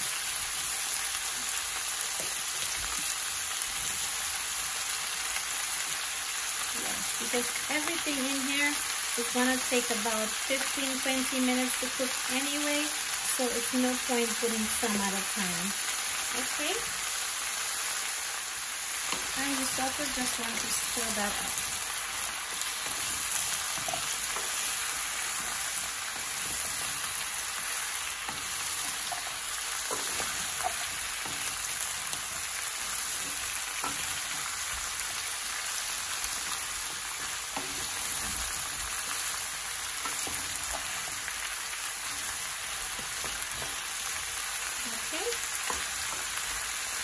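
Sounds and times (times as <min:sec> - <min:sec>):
vegetables sizzling in oil: 0:00.0 - 0:47.0.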